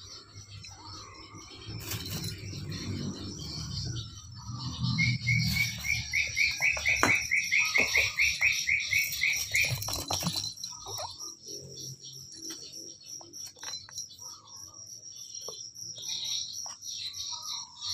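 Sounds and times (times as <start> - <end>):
small animal chirping: 0.0 - 17.9.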